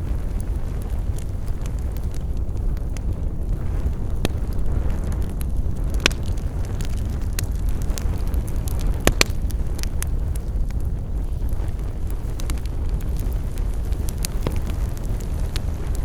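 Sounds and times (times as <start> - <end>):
campfire crackling: 0.0 - 16.0
loud fire pops: 0.0 - 16.0.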